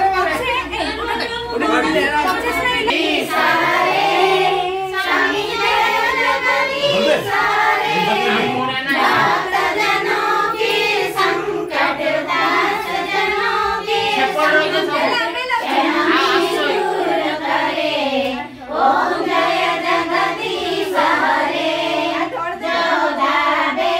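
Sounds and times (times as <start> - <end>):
women singing in unison: 0.0 - 23.9.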